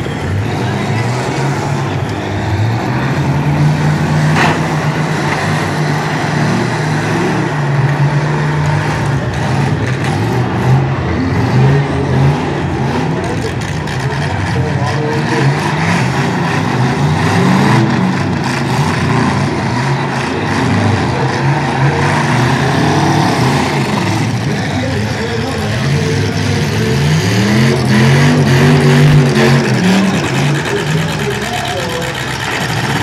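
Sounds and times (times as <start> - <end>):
truck engines revving: 0.0 - 33.0.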